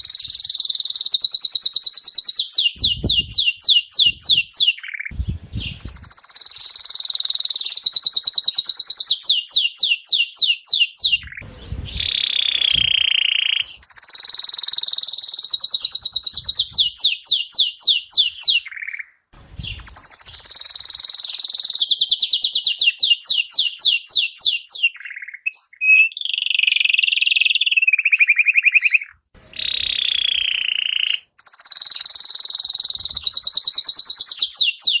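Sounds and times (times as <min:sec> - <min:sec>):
canary singing trills: 0:00.0 - 0:35.0.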